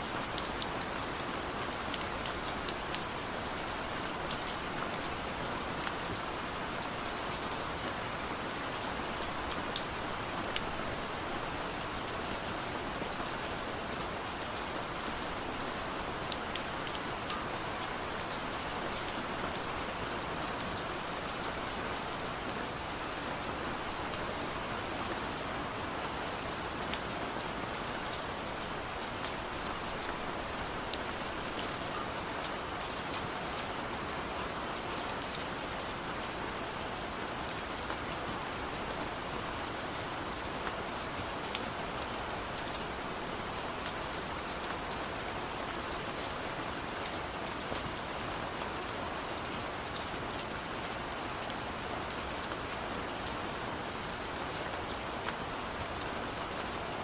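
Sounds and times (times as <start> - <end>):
steady rainfall: 0.0 - 57.0
raindrops ticking on surfaces: 0.1 - 57.0.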